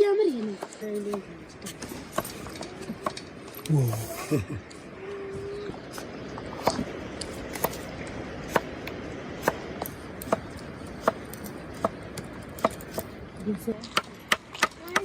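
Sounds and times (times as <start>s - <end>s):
steady rain hiss: 0.0s - 15.0s
wood fire crackling: 0.0s - 15.0s.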